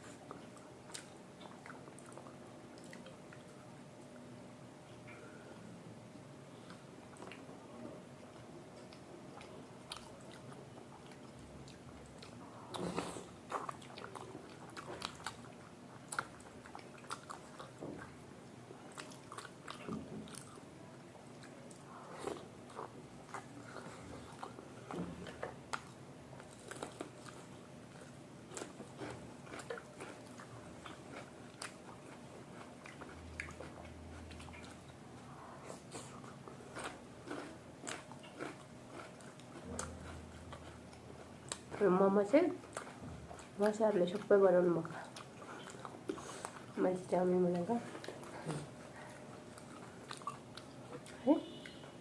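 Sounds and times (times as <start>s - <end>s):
chewing and biting food: 0.0s - 3.7s, 8.3s - 18.2s, 18.8s - 41.9s, 42.5s - 46.8s, 47.6s - 51.8s.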